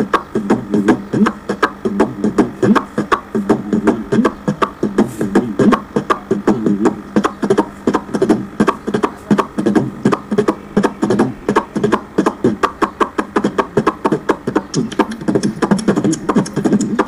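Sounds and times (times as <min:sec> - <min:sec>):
man beatboxing into a microphone: 0:00.0 - 0:17.0.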